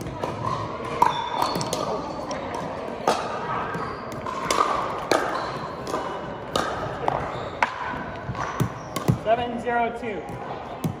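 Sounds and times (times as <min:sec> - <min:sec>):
pickleball paddle hits and bounces: 0:00.0 - 0:09.4
background chatter: 0:00.0 - 0:11.0.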